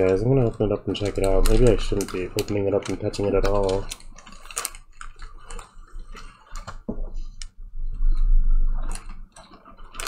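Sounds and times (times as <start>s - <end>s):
plastic bag crackling: 0.0s - 10.0s.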